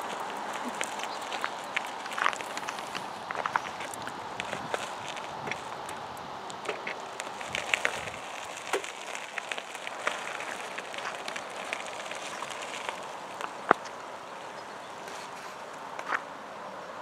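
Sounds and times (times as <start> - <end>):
bike tyres crunching on gravel: 0.0 - 16.4.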